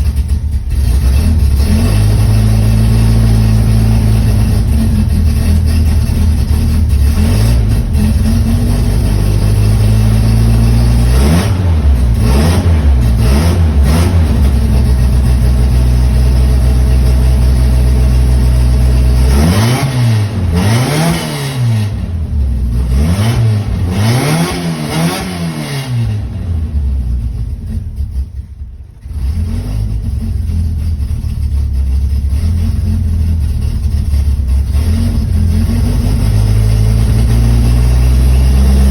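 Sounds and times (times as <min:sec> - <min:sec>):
car engine idling: 0:00.0 - 0:24.2, 0:26.0 - 0:38.9
engine throttle blips: 0:00.0 - 0:38.9.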